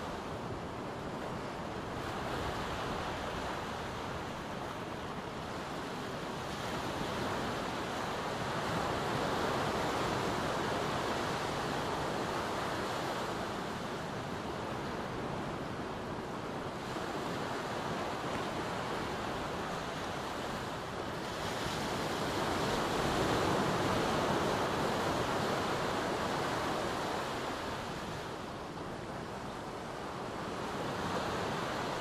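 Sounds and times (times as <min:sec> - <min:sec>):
small waves breaking on beach: 0:00.0 - 0:32.0.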